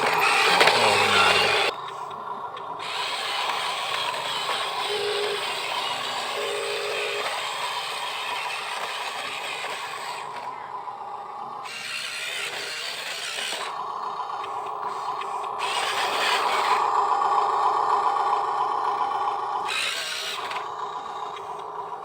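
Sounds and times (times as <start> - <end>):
electric motors grinding whir: 0.0 - 22.0.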